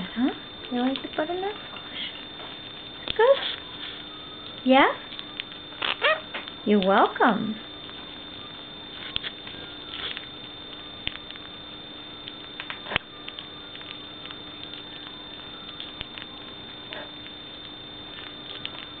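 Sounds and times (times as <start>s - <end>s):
steady background hum: 0.0s - 19.0s
parakeet beak clicks and crunches: 0.6s - 6.9s, 7.8s - 19.0s.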